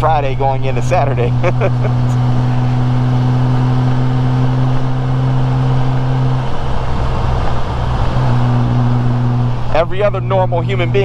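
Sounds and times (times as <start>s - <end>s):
motorcycle engine droning: 0.0s - 11.0s
wind and tyre noise: 0.0s - 11.0s.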